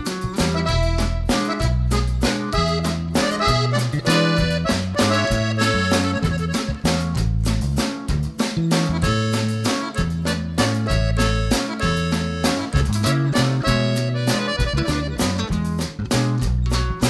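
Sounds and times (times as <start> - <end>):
accordion music with bouncy beat: 0.0 - 17.0.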